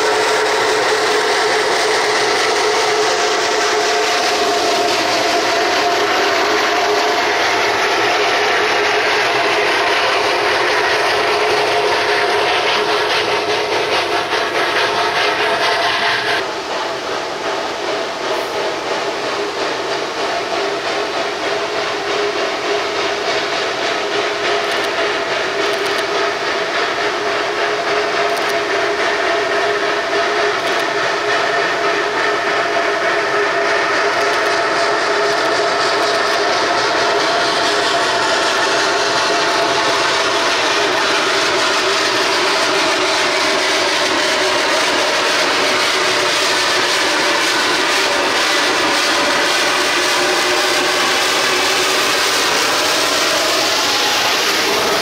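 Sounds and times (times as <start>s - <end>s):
steam locomotive hauling a train: 0.0s - 55.0s.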